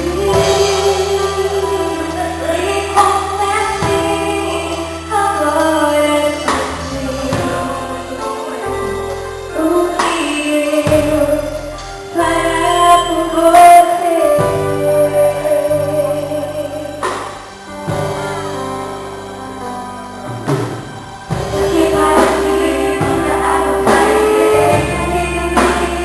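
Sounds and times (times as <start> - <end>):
woman singing: 0.0 - 19.0, 21.4 - 26.0
worship band music: 0.0 - 26.0.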